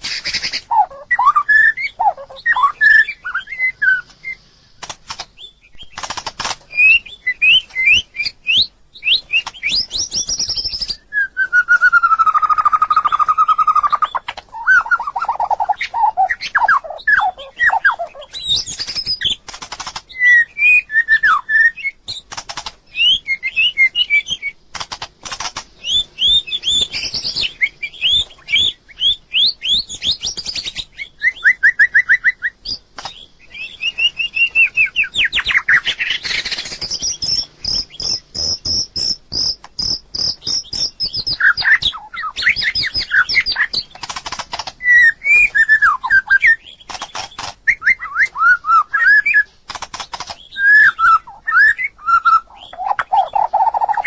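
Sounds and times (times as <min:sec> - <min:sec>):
sharp bird clicks: 0:00.0 - 0:11.1, 0:11.7 - 0:54.0
bird whistled song: 0:00.0 - 0:24.6, 0:25.8 - 0:54.0.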